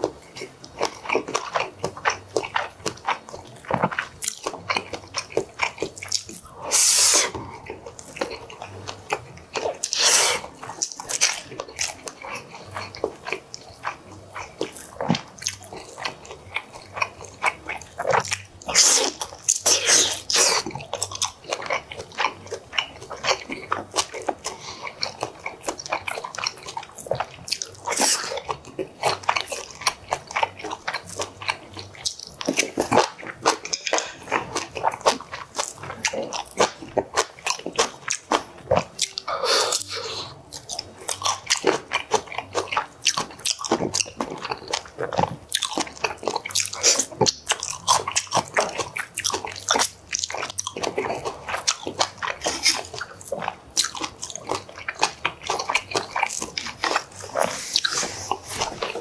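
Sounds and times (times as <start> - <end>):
close chewing and biting: 0.0 - 59.0.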